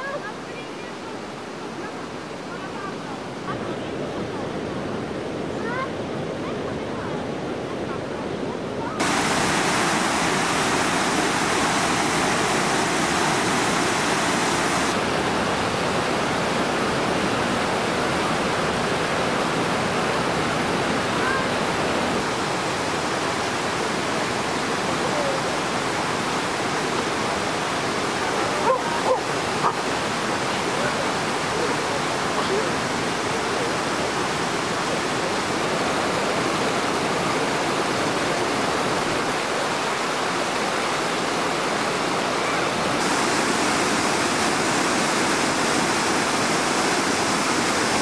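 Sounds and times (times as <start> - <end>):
water rushing down rocky stream: 8.8 - 48.0.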